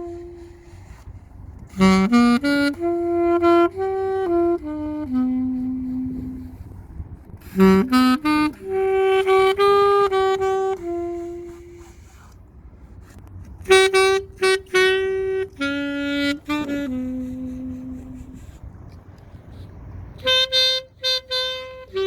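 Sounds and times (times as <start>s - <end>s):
solo alto saxophone: 0.0s - 22.0s.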